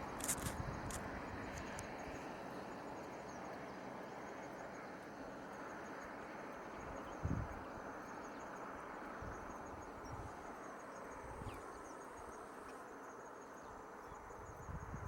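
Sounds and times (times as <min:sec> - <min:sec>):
high pulsing insect trill: 0:00.0 - 0:15.0
outdoor background noise: 0:00.0 - 0:15.0.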